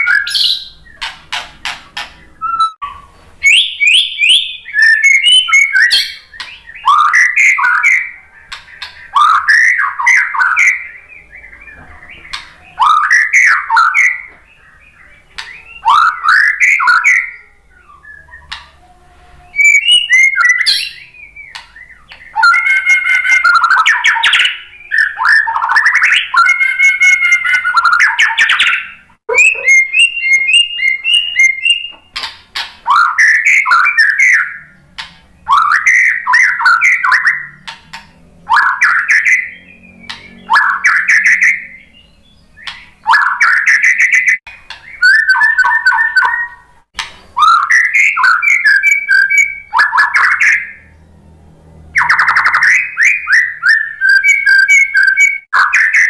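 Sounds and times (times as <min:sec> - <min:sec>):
bird singing whistled phrases: 0:00.0 - 0:01.1, 0:02.2 - 0:32.2, 0:32.9 - 0:34.8, 0:35.4 - 0:37.8, 0:38.5 - 0:46.7, 0:47.4 - 0:50.8, 0:52.0 - 0:56.0.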